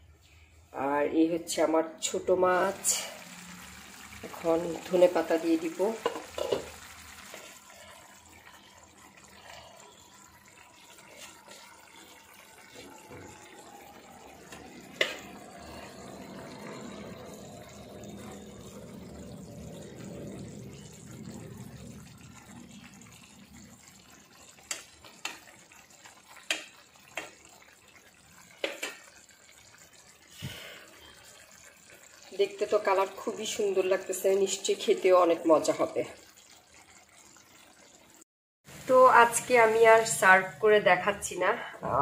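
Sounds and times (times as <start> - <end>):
curry bubbling in a pan: 2.0 - 42.0.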